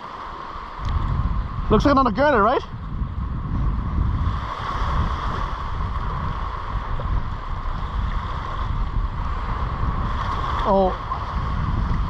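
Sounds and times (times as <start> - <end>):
sea rushing against rocks: 0.0 - 12.0
wind buffeting microphone: 0.0 - 12.0.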